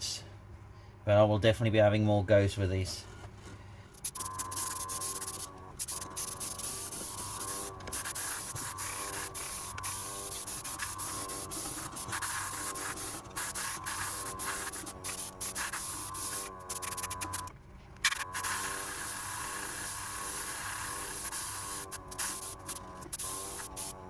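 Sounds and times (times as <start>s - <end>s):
small compressor humming: 3.2s - 24.0s
airbrush spraying hiss: 4.0s - 24.0s.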